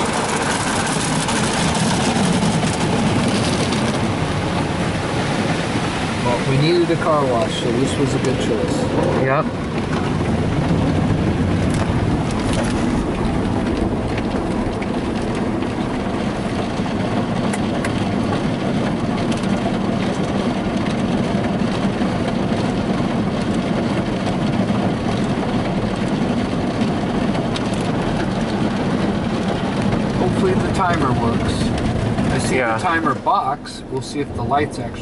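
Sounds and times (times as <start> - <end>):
muffled car wash spray and machinery: 0.0 - 35.0.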